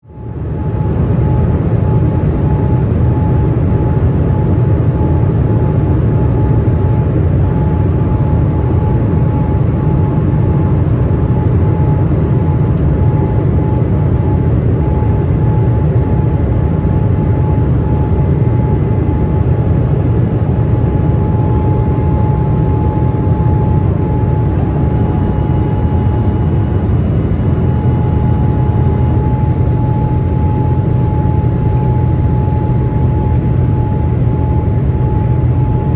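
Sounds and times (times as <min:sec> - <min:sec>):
airliner engine and airflow rumble: 0:00.0 - 0:35.9.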